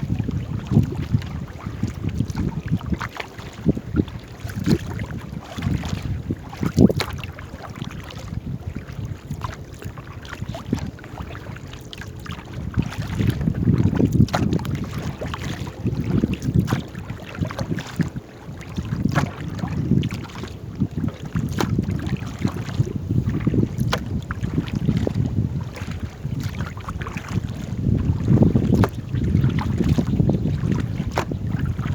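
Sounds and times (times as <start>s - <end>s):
water from paddled boat: 0.0s - 31.9s
wind rumbling on microphone: 0.0s - 31.9s.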